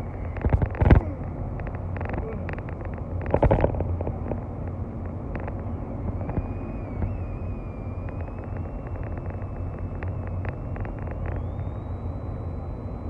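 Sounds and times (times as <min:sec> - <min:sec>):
bursts of clicks and noise: 0:00.0 - 0:13.0
car driving rumble inside cabin: 0:00.0 - 0:13.0.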